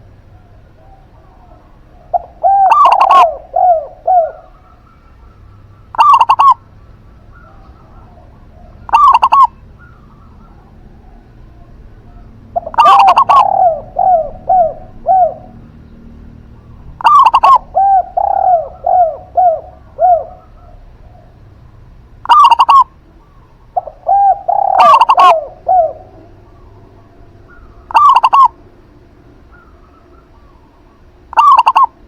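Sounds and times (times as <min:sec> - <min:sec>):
doves cooing: 0:00.0 - 0:32.0.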